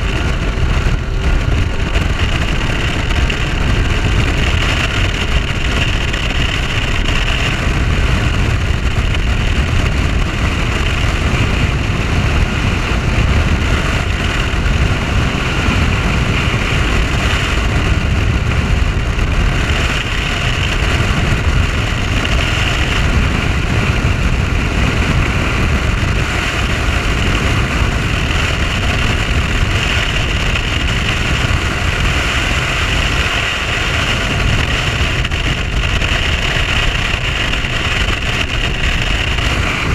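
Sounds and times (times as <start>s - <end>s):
outboard motor running: 0.0s - 39.9s
wind and water rushing: 0.0s - 39.9s.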